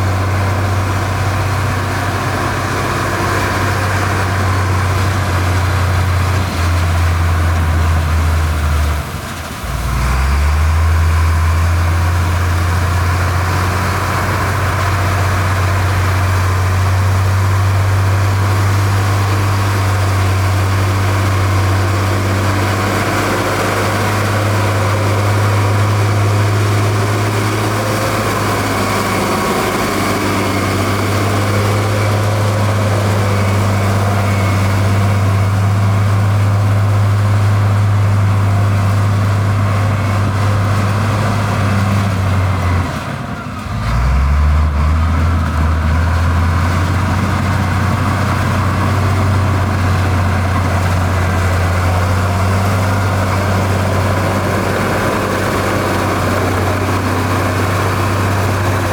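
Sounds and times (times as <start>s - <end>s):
heavy diesel engine humming: 0.0s - 58.9s.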